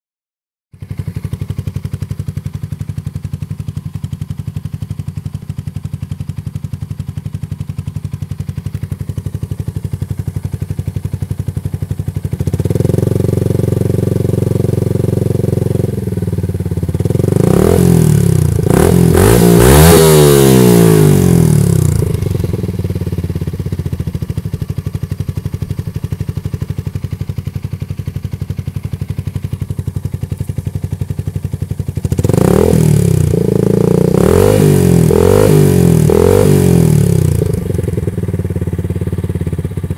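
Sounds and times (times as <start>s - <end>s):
motorcycle engine idling and revving: 0.7s - 39.9s.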